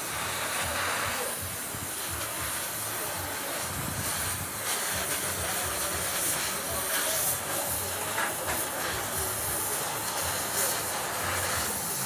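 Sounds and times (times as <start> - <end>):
welding torch flame hissing: 0.0 - 12.0.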